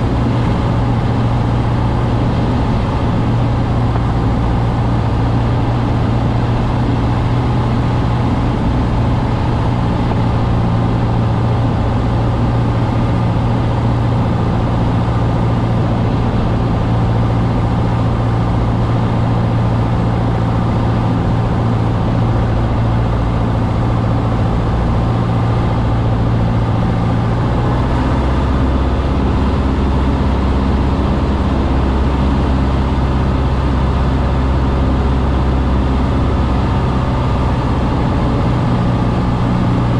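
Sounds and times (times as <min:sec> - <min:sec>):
light aircraft engine and propeller droning: 0:00.0 - 0:39.9.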